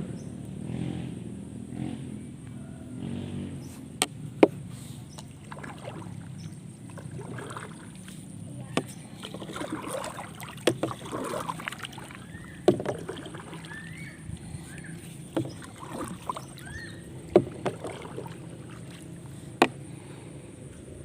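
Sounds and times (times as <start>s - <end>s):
water sloshing: 3.8s - 21.0s.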